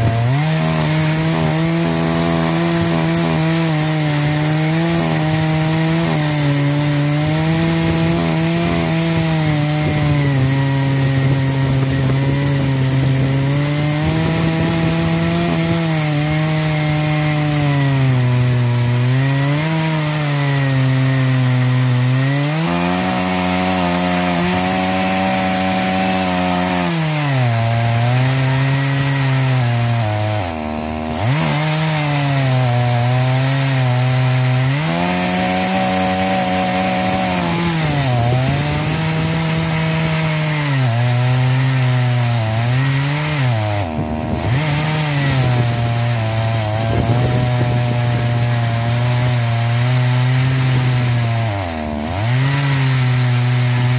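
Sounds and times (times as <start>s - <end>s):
chainsaw cutting log at full throttle: 0.0s - 53.9s.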